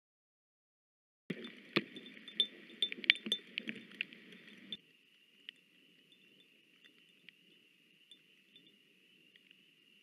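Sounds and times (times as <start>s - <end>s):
sharp drips and ticks: 1.3s - 10.0s.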